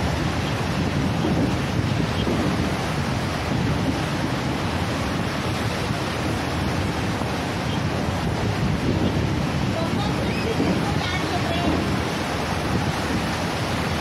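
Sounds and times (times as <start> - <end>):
sea water rushing: 0.0 - 14.0
wind buffeting microphone: 0.0 - 14.0.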